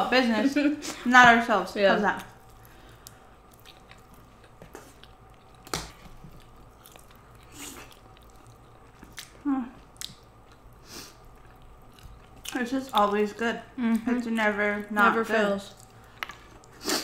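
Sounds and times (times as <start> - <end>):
people chewing food: 1.9 - 17.0.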